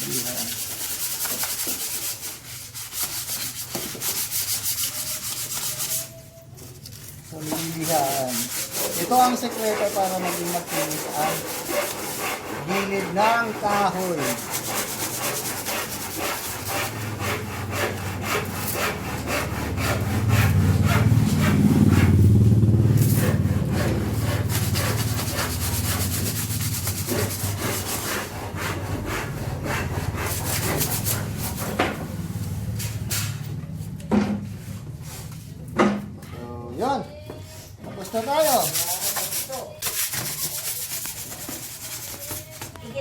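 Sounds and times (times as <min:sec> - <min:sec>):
sandpaper rubbing on plywood: 0:00.0 - 0:31.8, 0:38.0 - 0:43.0.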